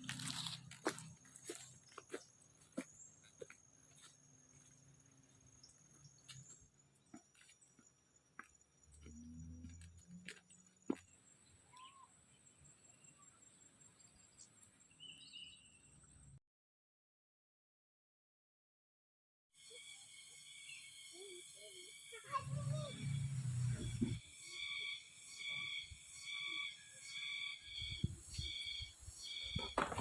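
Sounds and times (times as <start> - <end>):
insects trilling: 0.0 - 15.0, 19.6 - 29.8.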